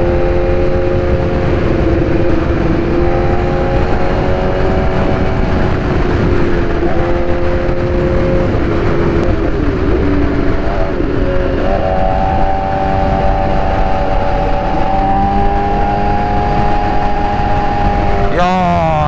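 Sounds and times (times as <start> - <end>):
motorcycle engine hum: 0.0 - 19.0.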